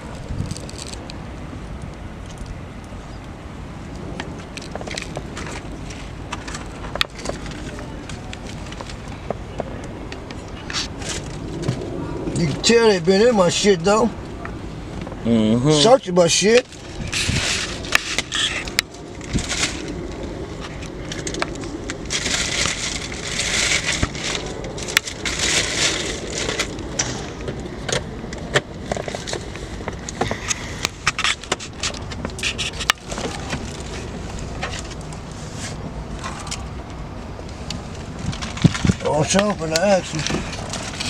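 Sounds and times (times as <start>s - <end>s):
rustling and crinkling items: 0.0s - 1.2s, 4.2s - 14.0s, 15.8s - 36.7s, 37.4s - 41.0s
steady low rumble: 0.0s - 41.0s.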